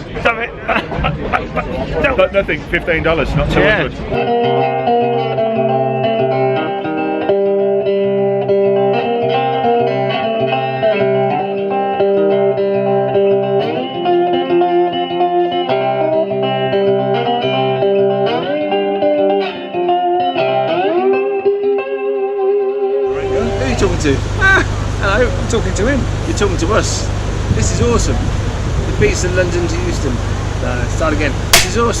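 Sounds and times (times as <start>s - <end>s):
guitar-led instrumental music: 3.4s - 30.7s.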